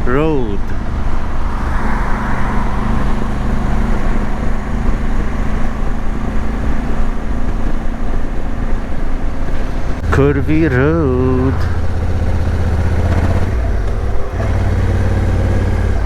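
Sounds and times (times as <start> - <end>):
motorcycle engine running: 2.8 - 16.0.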